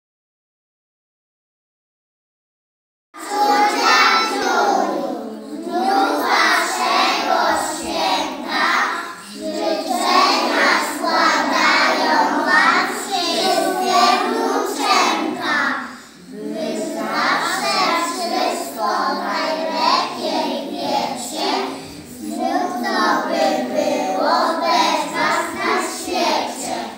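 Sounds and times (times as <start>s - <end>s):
children singing in unison: 3.2s - 26.9s.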